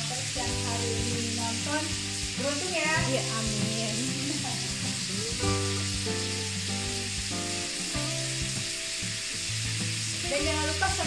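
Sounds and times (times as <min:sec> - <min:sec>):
background music of held notes: 0:00.0 - 0:11.0
meat sizzling in a pan: 0:00.0 - 0:11.0.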